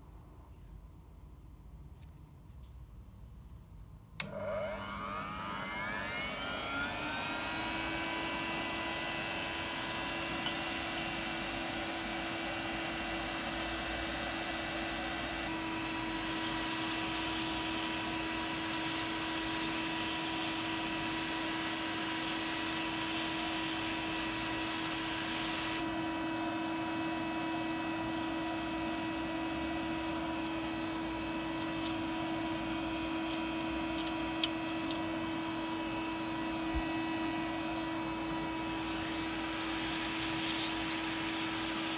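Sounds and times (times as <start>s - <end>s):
hot-air blower humming: 4.2s - 41.9s.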